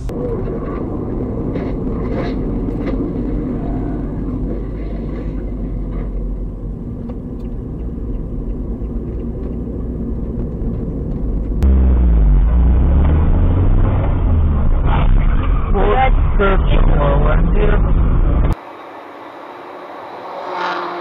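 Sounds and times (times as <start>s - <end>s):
car cabin road rumble: 0.0s - 18.6s
deep car rumble: 0.0s - 18.6s.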